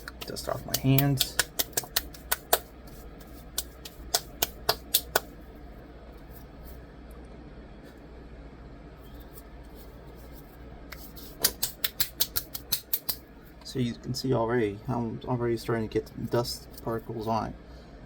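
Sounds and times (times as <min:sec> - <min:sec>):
faint steady low hum: 0:00.0 - 0:18.0.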